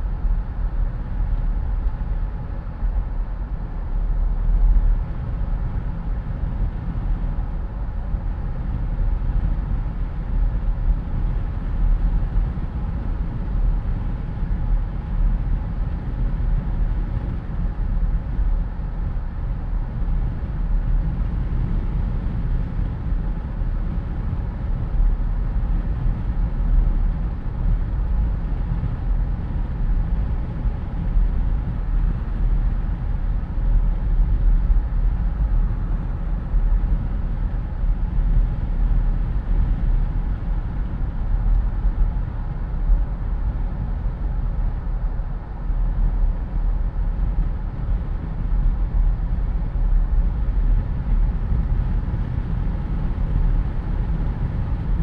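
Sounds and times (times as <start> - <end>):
road and engine rumble: 0.0 - 55.0
wind rush through open car: 0.0 - 55.0.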